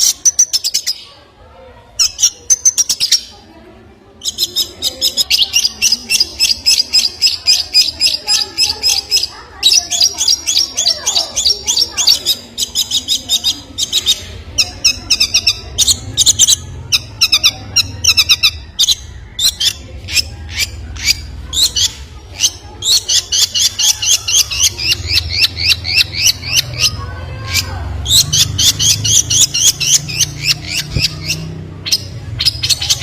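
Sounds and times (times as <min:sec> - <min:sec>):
small bird chirping: 0:00.0 - 0:01.2, 0:01.9 - 0:03.5, 0:04.2 - 0:33.0.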